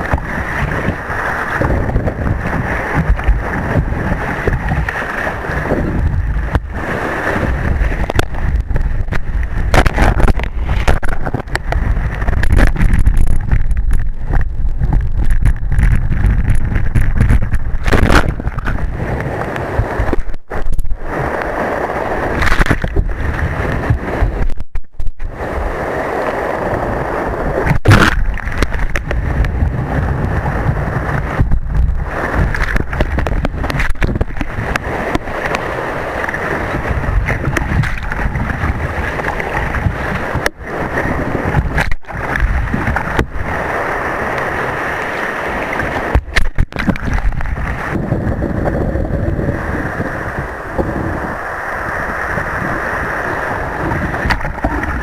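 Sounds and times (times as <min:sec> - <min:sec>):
water rushing and splashing: 0:00.0 - 0:55.0
wind buffeting microphone: 0:00.0 - 0:55.0.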